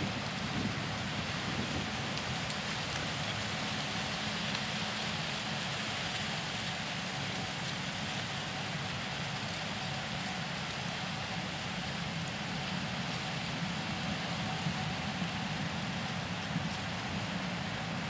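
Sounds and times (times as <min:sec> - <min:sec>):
combine harvester engine drone: 0:00.0 - 0:18.0
faint steady whine: 0:00.0 - 0:18.0.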